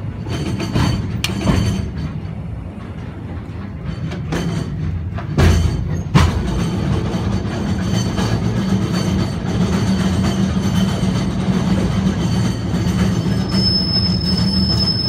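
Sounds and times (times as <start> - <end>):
knocks and clacks: 0.0 - 13.8
train wheels rumbling on track: 0.0 - 15.0.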